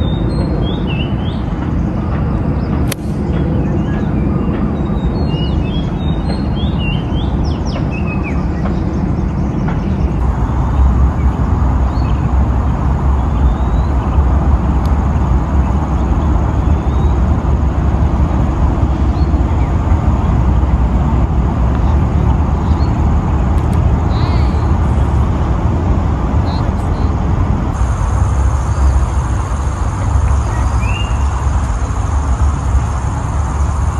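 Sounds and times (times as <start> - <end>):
birds chirping: 0.0 - 33.9
steady low rumble: 0.0 - 33.9.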